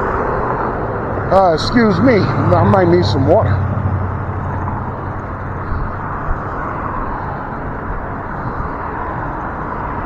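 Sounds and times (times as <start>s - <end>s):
wind over microphone: 0.0s - 10.0s.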